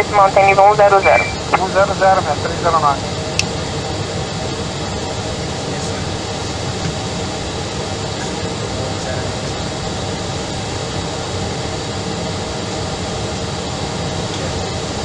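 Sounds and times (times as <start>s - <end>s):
jet engine drone: 0.0s - 15.0s.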